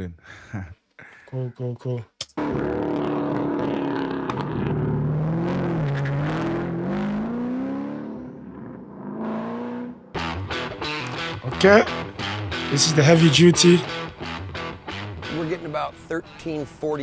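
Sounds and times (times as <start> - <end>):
car engine revving: 2.4 - 17.0.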